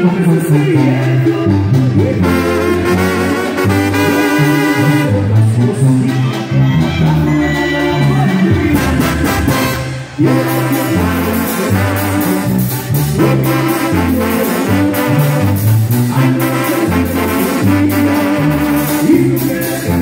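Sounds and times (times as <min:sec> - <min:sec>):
brass band playing: 0:00.0 - 0:20.0.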